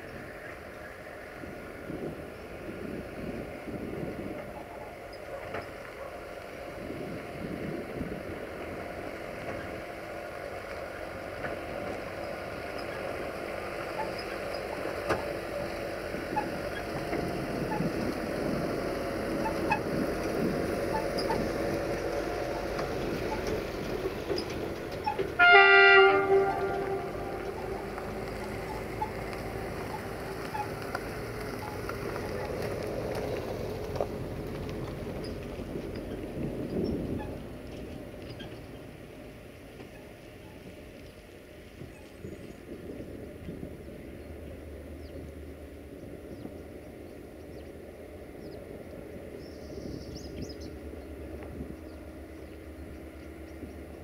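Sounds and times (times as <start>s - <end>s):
diesel locomotive rumble: 0.0s - 54.0s.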